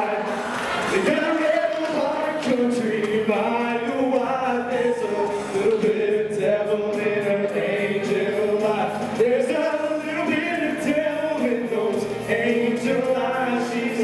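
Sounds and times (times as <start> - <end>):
backing music: 0.0 - 14.0
man singing into a microphone: 0.0 - 14.0.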